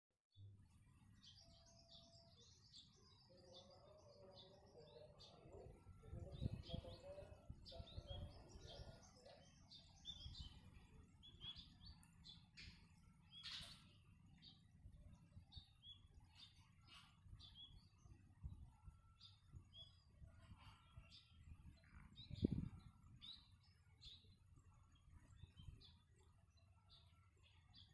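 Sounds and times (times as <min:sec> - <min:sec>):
small birds chirping: 0:00.4 - 0:27.9.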